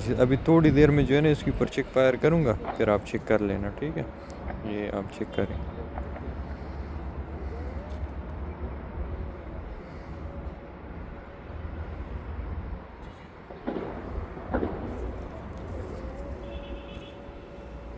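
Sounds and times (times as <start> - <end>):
low vehicle rumble: 0.0 - 17.9.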